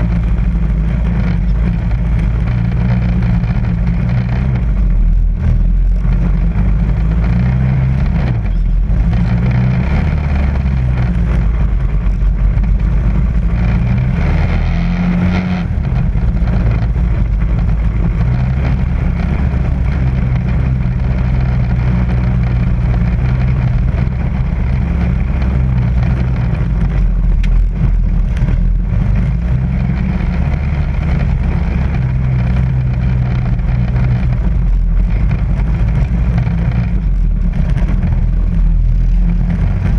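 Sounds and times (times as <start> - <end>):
quad engine running: 0.0 - 39.9
ride noise: 0.0 - 39.9.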